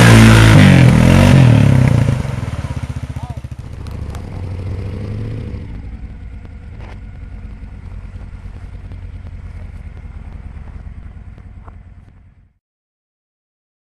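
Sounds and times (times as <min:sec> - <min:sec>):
motorcycle engine idling: 0:01.0 - 0:12.6.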